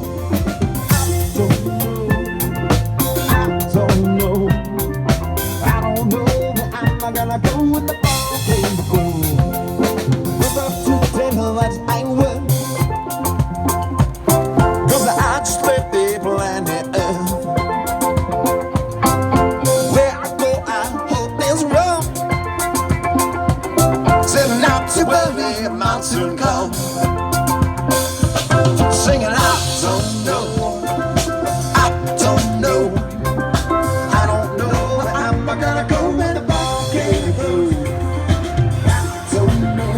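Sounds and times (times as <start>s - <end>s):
bass: 0.0s - 39.9s
drum kit beat: 0.0s - 39.9s
live band playing pop song: 0.0s - 39.9s
melody line: 0.0s - 39.9s.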